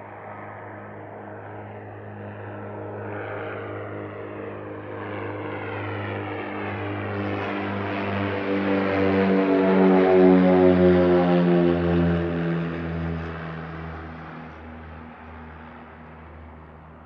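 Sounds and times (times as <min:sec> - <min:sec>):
propeller airplane engine droning: 0:00.0 - 0:17.0.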